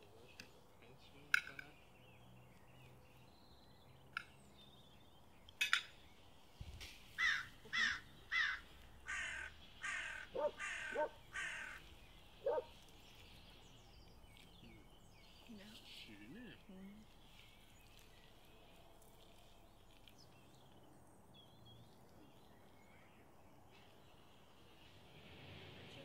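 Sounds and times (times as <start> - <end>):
birds calling harshly: 0.0 - 25.0.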